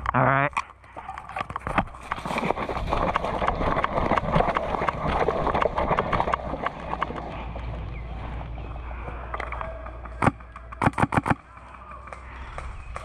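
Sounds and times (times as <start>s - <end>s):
running footsteps on rough ground: 0.8s - 13.0s.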